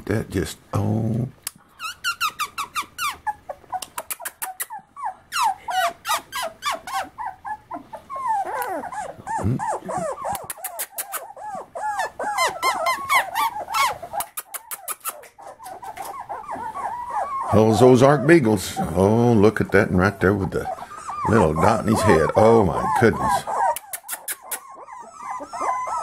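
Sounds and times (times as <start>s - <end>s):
puppies whimpering and squealing: 1.7s - 26.0s
puppies whining in chorus: 1.7s - 26.0s.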